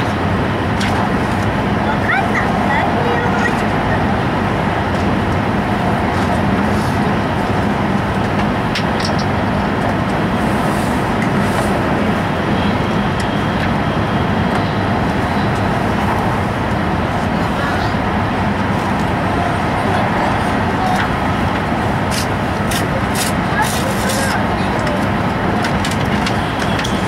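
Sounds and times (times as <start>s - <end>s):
train running noise inside cabin: 0.0s - 27.0s.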